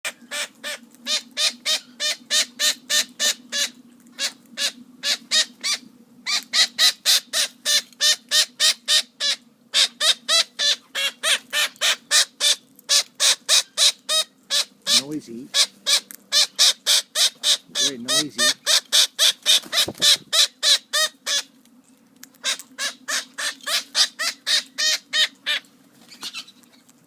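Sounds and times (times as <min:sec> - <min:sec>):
parrot squawking harshly: 0:00.3 - 0:21.5, 0:22.4 - 0:26.5.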